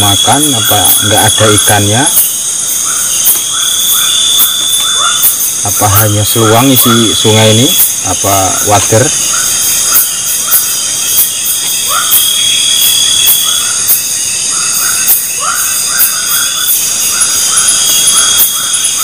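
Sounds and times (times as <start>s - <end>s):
frogs short rising calls: 0.0s - 19.0s
high pulsing chirp: 0.0s - 19.0s
insects trilling: 0.0s - 19.0s.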